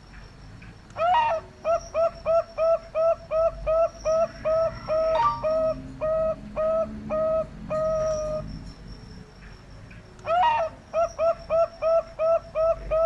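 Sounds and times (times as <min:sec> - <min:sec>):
doves cooing: 0:01.0 - 0:08.7, 0:10.2 - 0:13.0.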